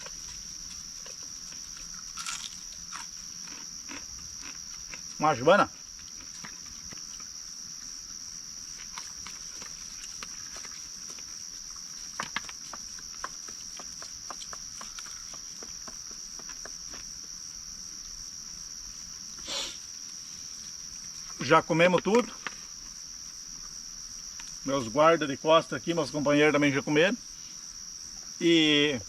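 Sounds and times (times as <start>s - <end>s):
crickets chirring: 0.0s - 29.0s.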